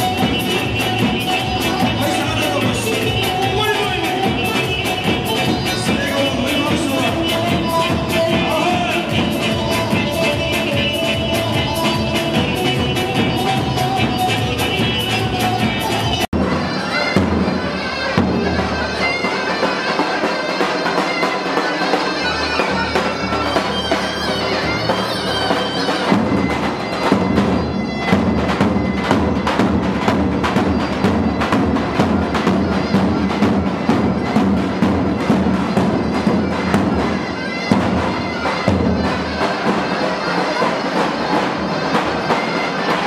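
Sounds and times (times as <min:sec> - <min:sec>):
drum beats: 0:00.0 - 0:43.0
shrill reed melody: 0:00.0 - 0:43.0.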